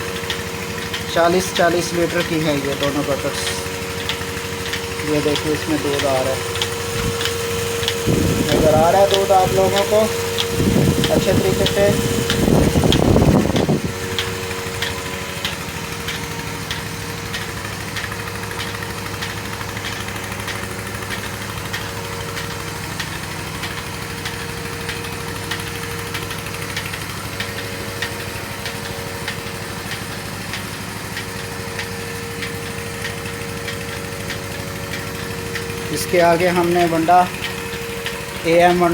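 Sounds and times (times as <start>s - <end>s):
pulsator ticking: 0.0s - 38.9s
vacuum pump motor humming: 0.0s - 38.9s.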